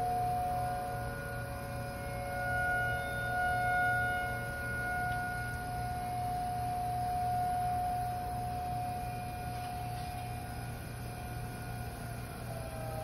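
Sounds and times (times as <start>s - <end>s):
tornado warning siren: 0.0s - 13.0s.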